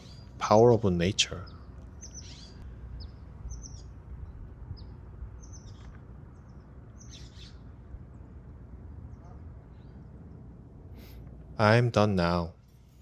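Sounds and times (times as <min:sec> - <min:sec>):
birds chirping: 0:00.0 - 0:11.8
low background rumble: 0:00.0 - 0:13.0.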